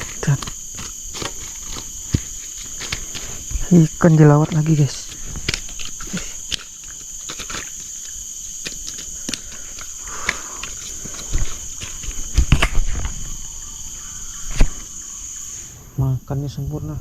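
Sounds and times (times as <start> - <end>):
dull thumps: 0.0 - 15.0
high-pitched insect drone: 0.0 - 17.0.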